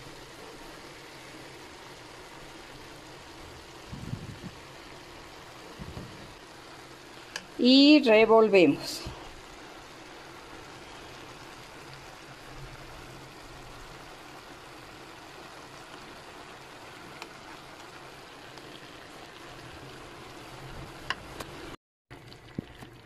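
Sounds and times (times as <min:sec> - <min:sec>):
cabbage sizzling in frying pan: 0:00.0 - 0:23.0.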